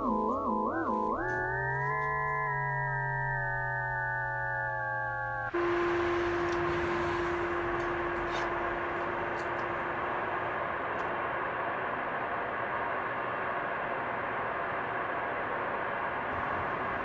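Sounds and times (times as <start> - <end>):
low held tone: 0.0 - 17.0.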